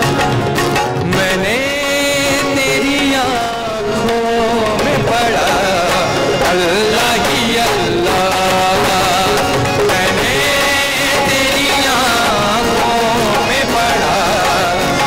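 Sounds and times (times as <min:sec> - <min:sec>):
hand drum: 0:00.0 - 0:15.0
harmonium: 0:00.0 - 0:15.0
keyboard: 0:00.0 - 0:15.0
men singing: 0:01.0 - 0:15.0.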